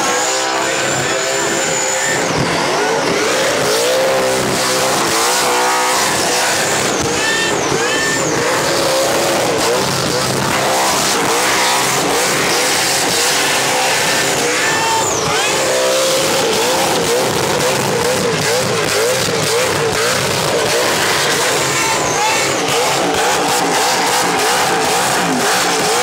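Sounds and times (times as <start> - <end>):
car engine revving high: 0.0 - 26.0
tyres spinning on pavement: 0.0 - 26.0.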